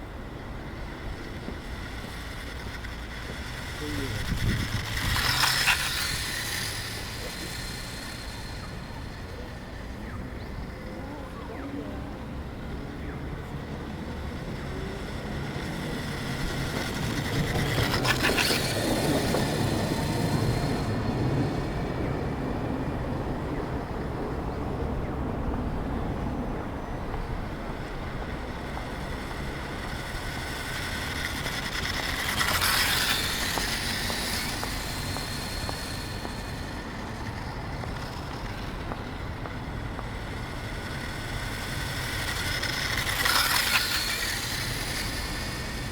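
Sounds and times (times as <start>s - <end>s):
electric toy motorcycle whining: 0.0s - 45.9s.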